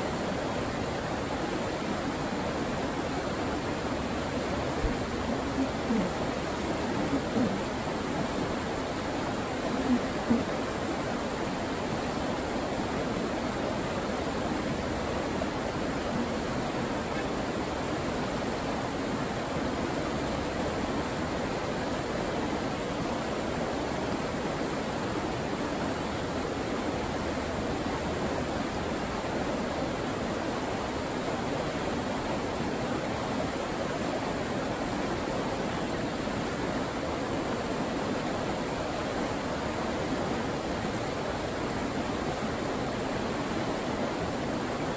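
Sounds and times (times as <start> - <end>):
river water rushing over rocks: 0.0 - 44.9.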